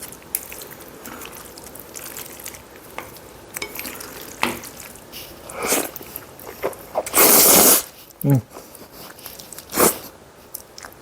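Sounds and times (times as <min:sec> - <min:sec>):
food stirred in a bowl: 0:00.0 - 0:11.0.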